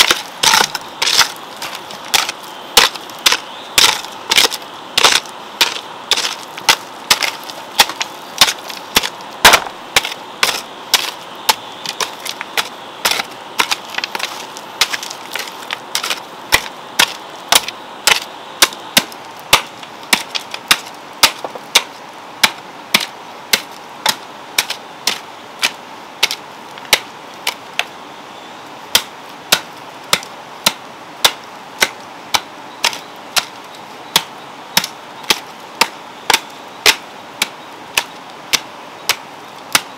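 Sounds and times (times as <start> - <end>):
hoe chopping into soil: 0.0 - 27.6, 28.9 - 39.9.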